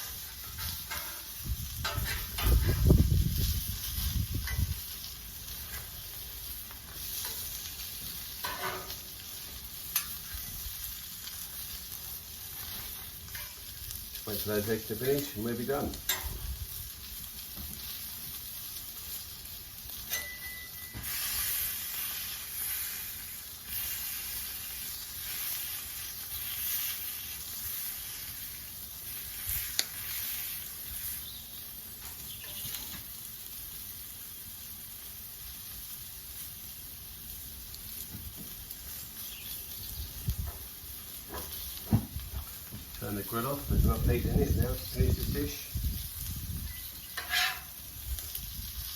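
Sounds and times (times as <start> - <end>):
eggs sizzling on griddle: 0.0 - 48.9.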